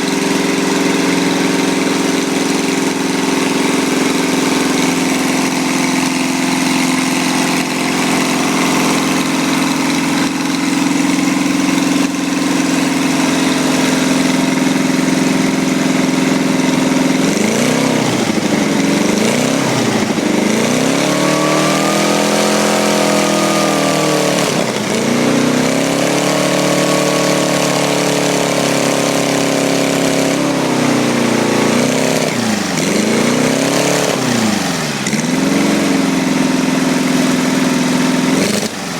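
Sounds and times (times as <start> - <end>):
small engine running and surging: 0.0 - 38.9.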